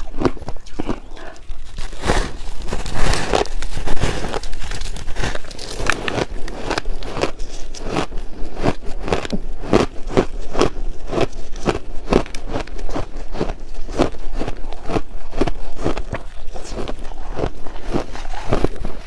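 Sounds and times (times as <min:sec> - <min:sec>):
ice being chewed: 0:00.0 - 0:19.0.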